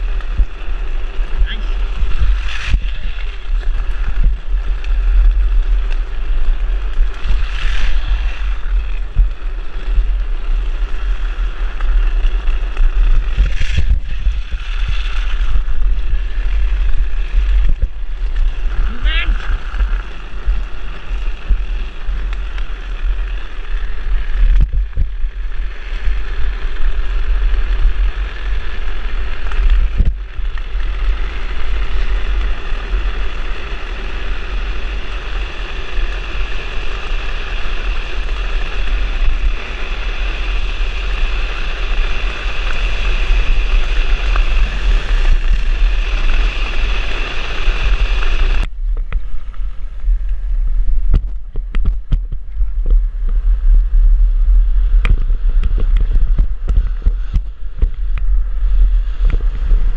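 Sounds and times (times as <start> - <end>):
wheels rolling on asphalt: 0.0 - 59.9
wind rumble on microphone: 0.0 - 59.9.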